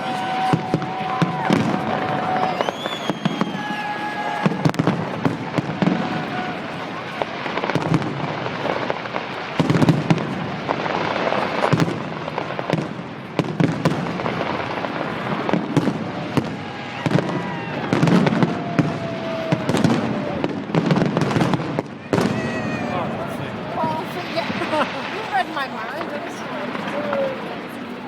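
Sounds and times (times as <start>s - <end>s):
fireworks bangs and crackling: 0.0s - 28.0s
whistling fireworks: 0.0s - 28.0s.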